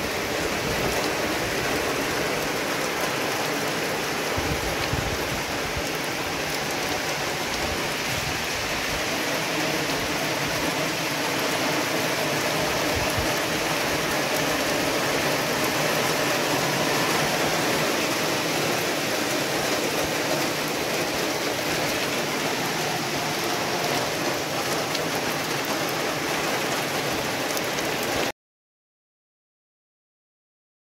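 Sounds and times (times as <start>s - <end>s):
heavy rain on road: 0.0s - 28.3s.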